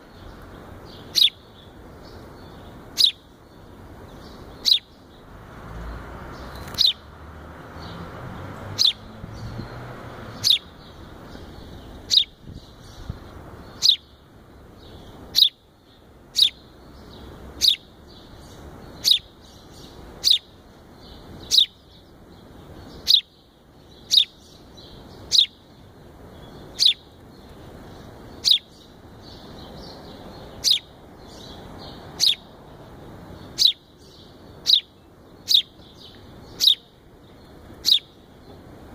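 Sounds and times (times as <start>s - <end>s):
sparrow chirping: 0.0s - 38.9s.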